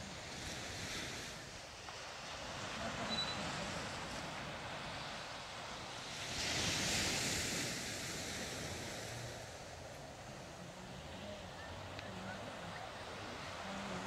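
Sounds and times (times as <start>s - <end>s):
sea waves washing up beach: 0.0s - 14.0s.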